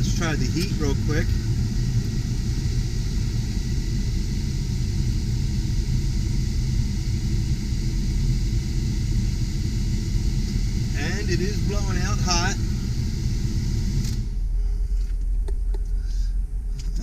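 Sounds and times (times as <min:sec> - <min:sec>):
blower fan running: 0:00.0 - 0:17.0
engine idling: 0:00.0 - 0:17.0.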